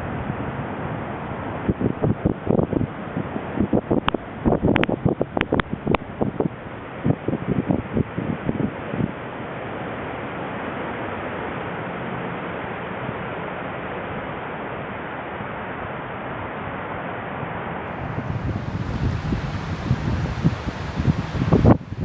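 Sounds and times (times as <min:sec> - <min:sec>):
rushing wind: 0:00.0 - 0:11.0, 0:13.0 - 0:22.0.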